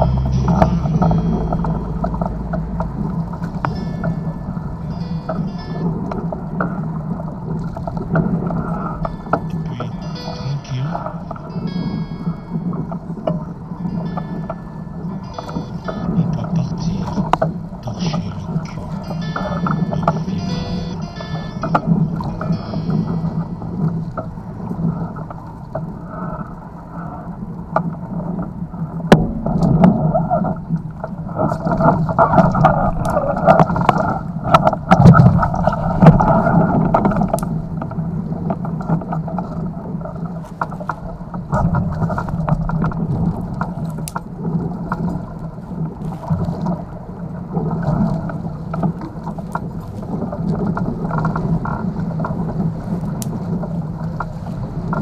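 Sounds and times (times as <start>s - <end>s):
water splashing against hulls: 0.0s - 55.0s.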